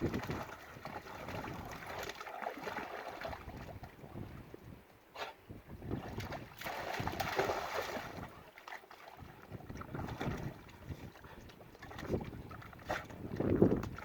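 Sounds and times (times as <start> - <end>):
wind buffeting microphone: 0.0 - 1.8, 3.2 - 8.5, 9.2 - 14.0.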